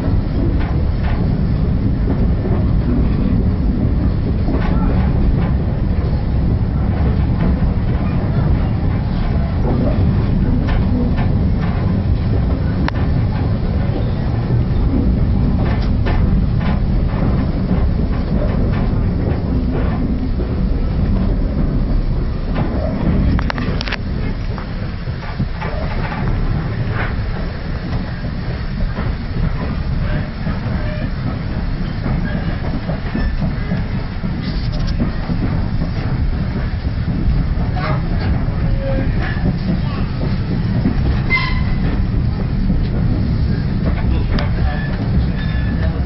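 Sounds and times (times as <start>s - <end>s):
train carriage rumble: 0.0s - 46.0s
wheel clicks over rail joints: 0.0s - 46.0s.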